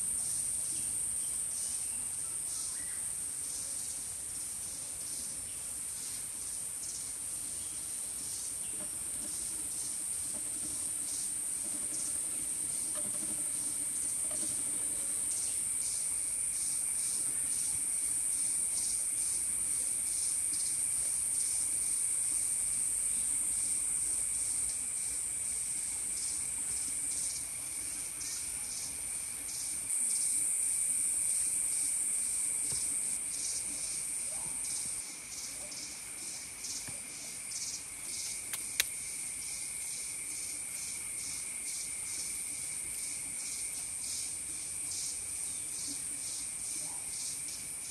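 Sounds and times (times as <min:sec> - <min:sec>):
lower-pitched insect drone: 0:00.0 - 0:47.9.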